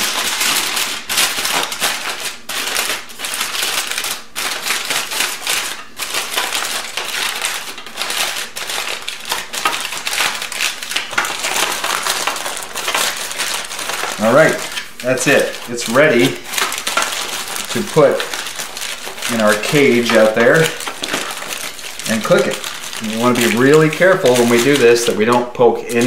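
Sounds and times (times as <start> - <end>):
aluminum foil crinkling: 0.0 - 26.0.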